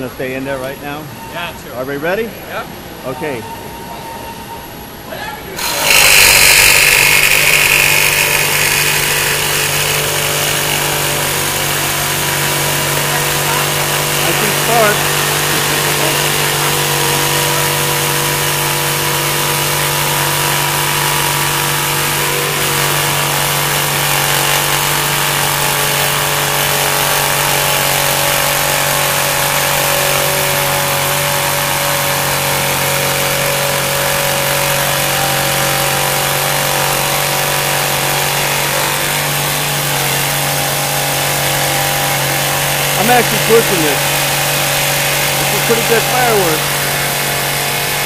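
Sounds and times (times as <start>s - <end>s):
jigsaw sawing through steel: 5.6s - 48.0s.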